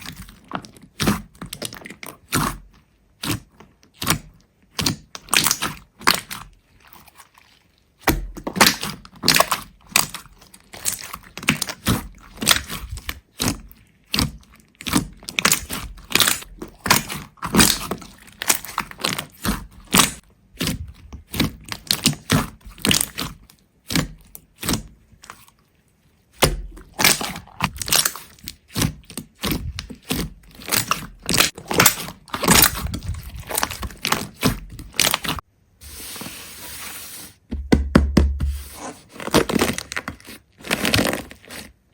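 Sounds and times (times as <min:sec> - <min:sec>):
brittle cracking and crunching: 0:03.2 - 0:25.5, 0:26.4 - 0:35.4, 0:39.1 - 0:41.8.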